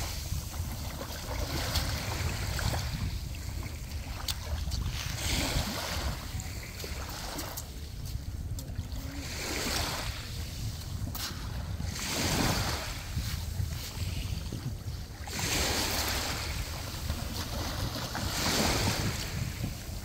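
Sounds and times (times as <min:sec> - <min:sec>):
waves lapping on pebbles: 0:00.0 - 0:20.0
wind buffeting microphone: 0:00.0 - 0:20.0.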